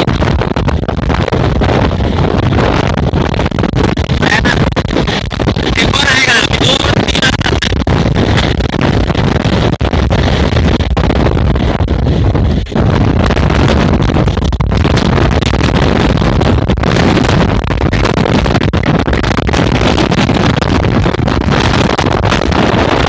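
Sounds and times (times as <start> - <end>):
train rumble: 0.0 - 23.0
wind buffeting microphone: 0.0 - 23.0.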